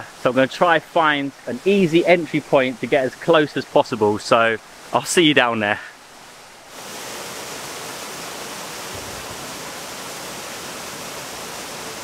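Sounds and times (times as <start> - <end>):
waterfall pouring over rocks: 0.0 - 12.0.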